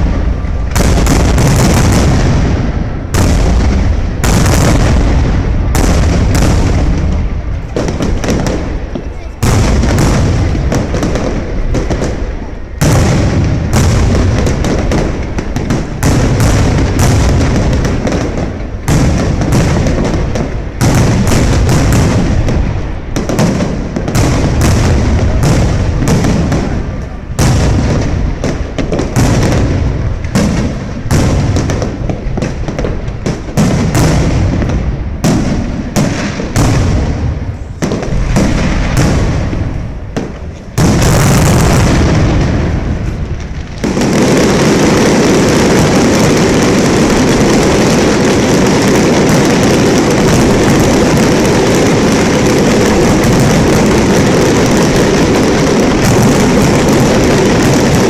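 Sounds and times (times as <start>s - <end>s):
fireworks booming: 0.0s - 58.0s.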